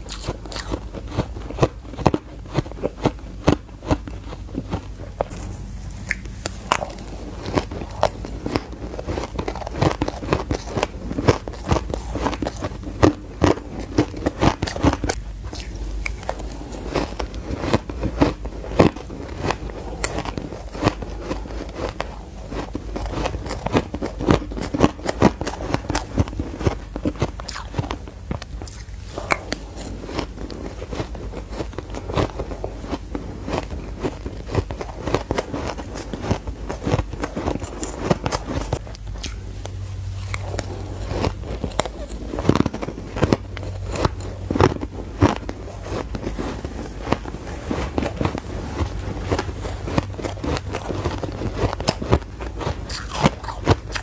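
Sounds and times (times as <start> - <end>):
crunching and chewing shaved ice: 0.0 - 54.0.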